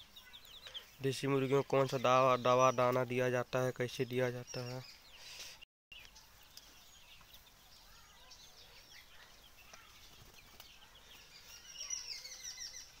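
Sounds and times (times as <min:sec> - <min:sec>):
bird chirps: 0:00.0 - 0:13.0
quiet outdoor hiss: 0:00.0 - 0:13.0.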